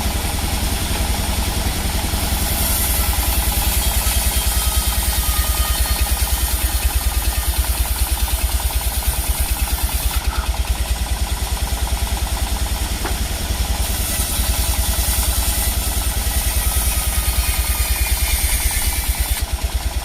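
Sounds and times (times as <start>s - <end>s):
engine running with low thumps: 0.0s - 20.0s.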